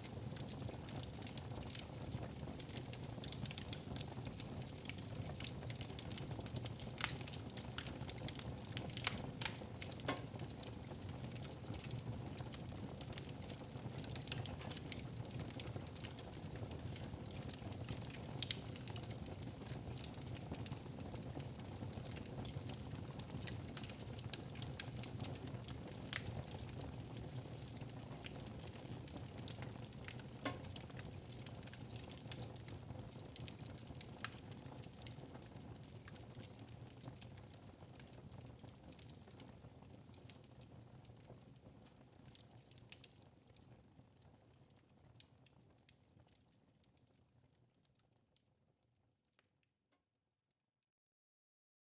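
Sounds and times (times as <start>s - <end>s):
wood fire crackling: 0.0s - 47.1s.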